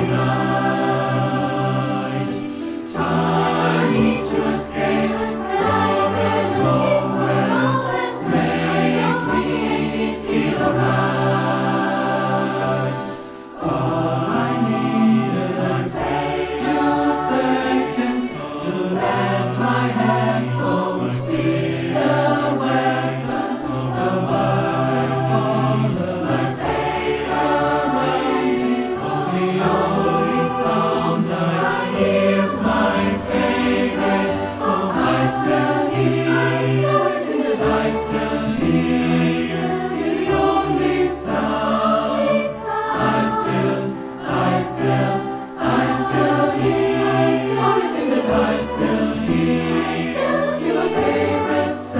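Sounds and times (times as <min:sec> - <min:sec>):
choir singing: 0:00.0 - 0:51.9
piano accompaniment: 0:00.0 - 0:51.9.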